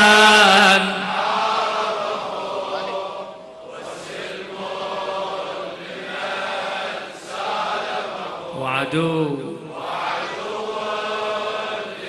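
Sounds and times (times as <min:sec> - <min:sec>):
crowd chanting: 0:00.0 - 0:12.0.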